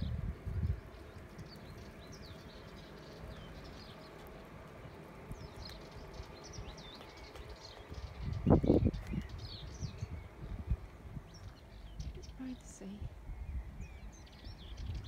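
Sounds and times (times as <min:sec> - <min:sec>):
faint outdoor background noise: 0:00.0 - 0:15.0
small birds chirping: 0:00.0 - 0:15.0.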